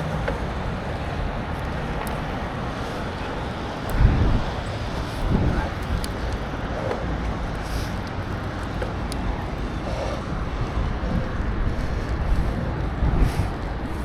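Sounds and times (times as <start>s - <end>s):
city background noise: 0.0s - 14.0s
wind buffeting microphone: 0.0s - 14.0s.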